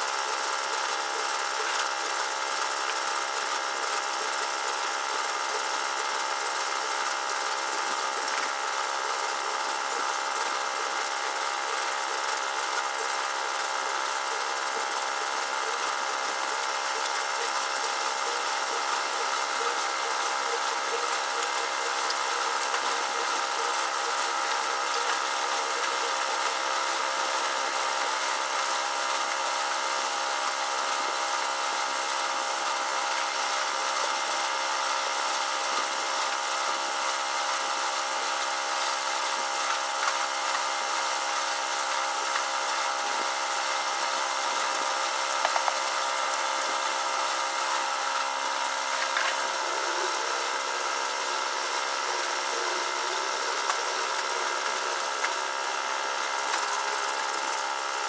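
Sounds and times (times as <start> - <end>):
steady machine hum: 0.0 - 31.9, 38.2 - 58.0.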